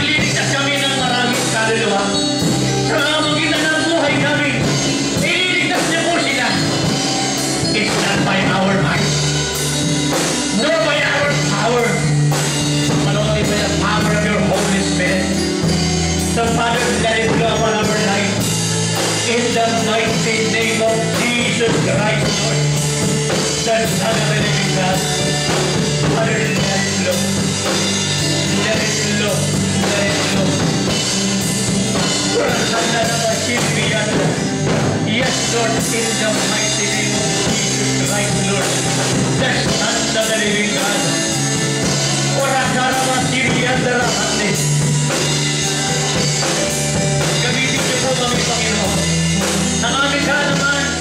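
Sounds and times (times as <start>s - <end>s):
upbeat worship music: 0.0s - 51.0s.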